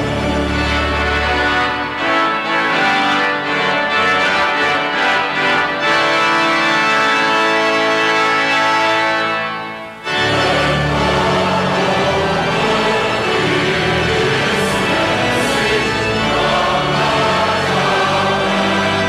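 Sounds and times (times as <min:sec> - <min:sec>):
organ playing held chords: 0:00.0 - 0:19.0.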